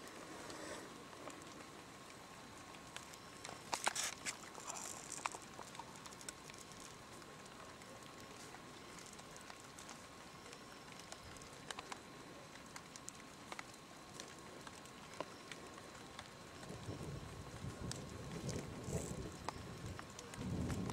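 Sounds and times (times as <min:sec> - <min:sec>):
background hiss: 0:00.0 - 0:20.9
soft clicks and ticks: 0:00.0 - 0:20.9.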